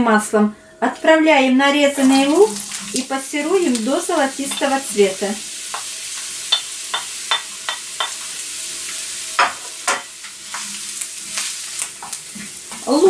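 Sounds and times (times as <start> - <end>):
onion sizzling in oil: 1.9 - 13.0.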